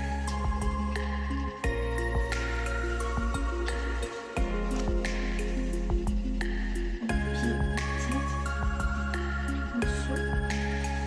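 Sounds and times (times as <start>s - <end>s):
soft slow instrumental music: 0.0s - 11.0s.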